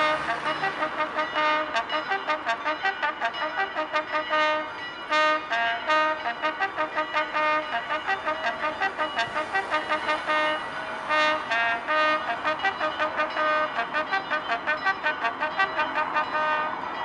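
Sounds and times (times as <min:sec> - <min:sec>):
solo trumpet call: 0:00.0 - 0:16.8.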